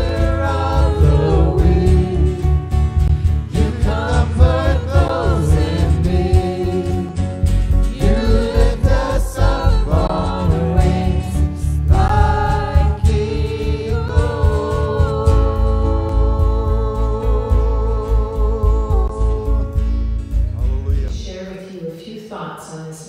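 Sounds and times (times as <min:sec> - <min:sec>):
women singing together: 0:00.0 - 0:02.6, 0:03.4 - 0:19.9
strummed acoustic guitar: 0:00.0 - 0:21.2
low bass: 0:00.0 - 0:21.4.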